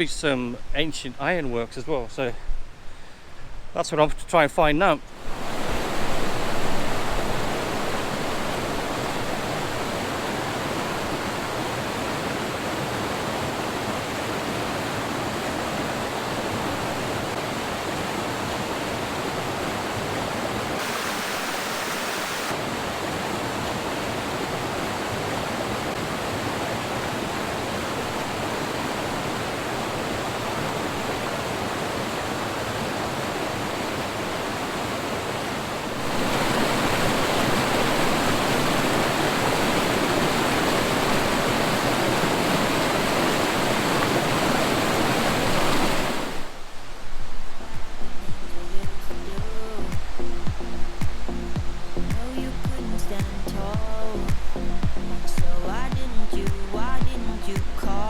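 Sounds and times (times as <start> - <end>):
waterfall and river rushing: 3.9 - 58.0.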